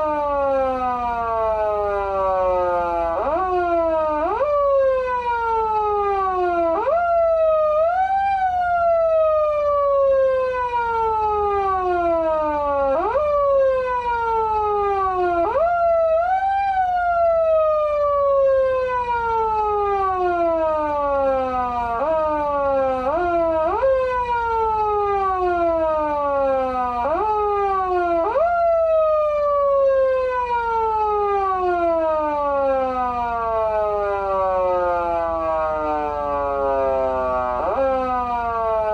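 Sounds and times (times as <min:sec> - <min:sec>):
emergency siren wail: 0:00.0 - 0:38.9.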